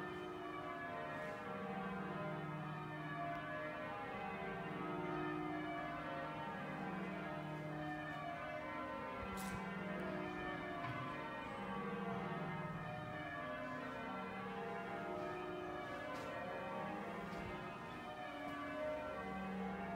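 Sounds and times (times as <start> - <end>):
church bells ringing a peal: 0.0 - 19.9.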